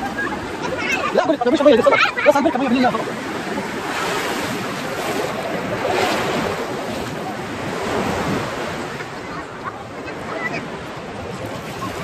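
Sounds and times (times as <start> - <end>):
sea surf washing on beach: 0.0 - 12.0.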